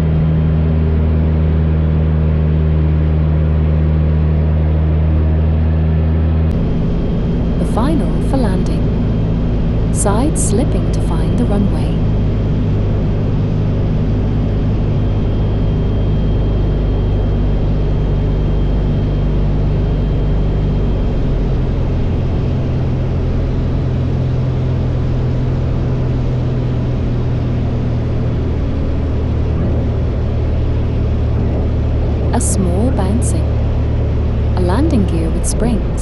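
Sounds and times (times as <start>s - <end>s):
propeller plane engine running: 0.0s - 36.0s.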